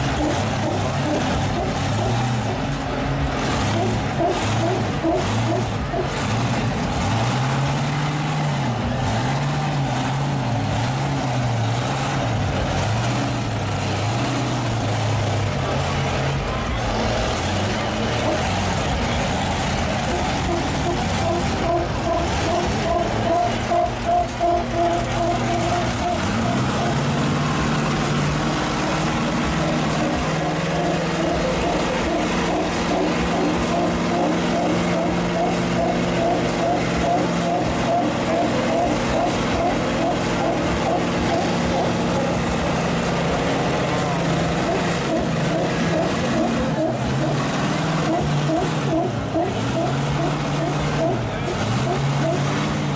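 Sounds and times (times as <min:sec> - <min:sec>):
heavy truck engines straining: 0:00.0 - 0:52.9.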